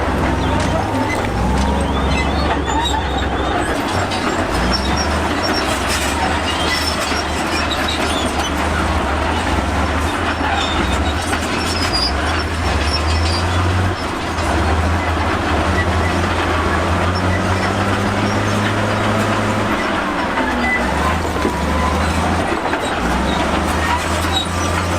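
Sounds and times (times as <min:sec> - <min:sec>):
bulldozer diesel engine under load: 0:00.0 - 0:24.9
steel tracks clanking and squealing: 0:00.0 - 0:24.9.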